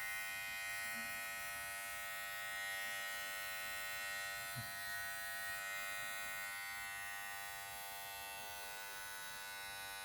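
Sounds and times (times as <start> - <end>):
hair clipper motor buzzing: 0.0 - 10.0.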